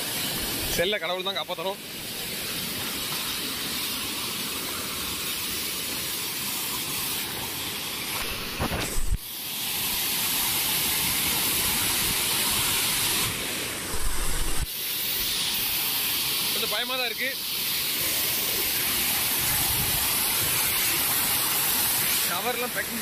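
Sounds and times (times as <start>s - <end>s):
waterfall pouring and splashing: 0.0s - 23.0s.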